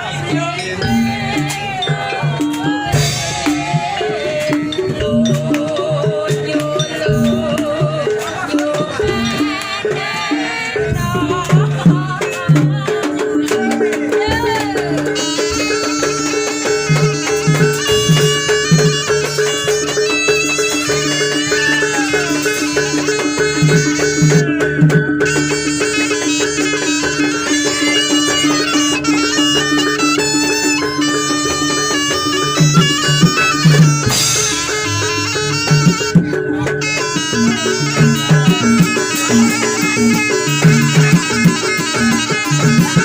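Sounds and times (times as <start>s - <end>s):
drums beating: 0.0s - 43.0s
wavering high melody: 0.0s - 43.0s.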